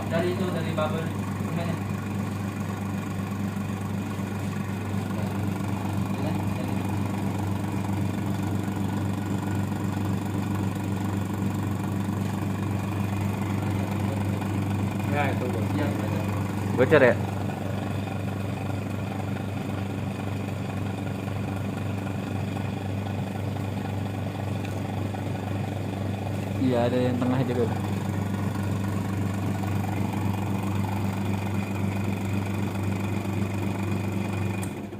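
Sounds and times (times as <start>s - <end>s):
electric vacuum pump humming: 0.0s - 34.9s.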